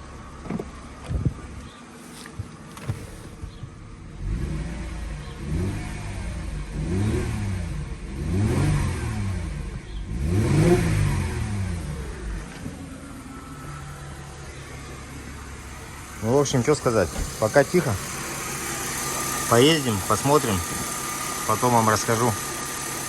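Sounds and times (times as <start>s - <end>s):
car engine revving: 2.8s - 23.0s.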